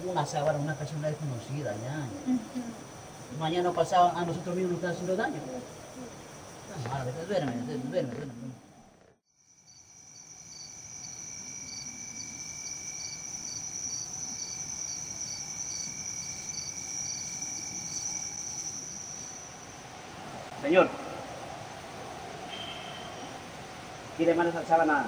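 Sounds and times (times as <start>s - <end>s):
crickets trilling: 0.0s - 25.0s
lower cricket trill: 0.0s - 25.0s
pulsing insect chirp: 0.0s - 25.0s.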